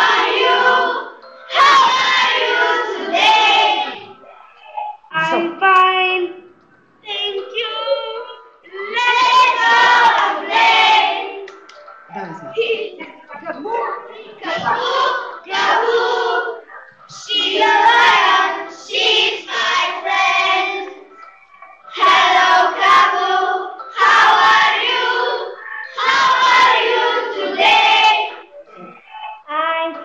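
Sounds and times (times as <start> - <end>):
children singing in unison: 0.0 - 4.4, 7.1 - 13.2, 14.0 - 29.0.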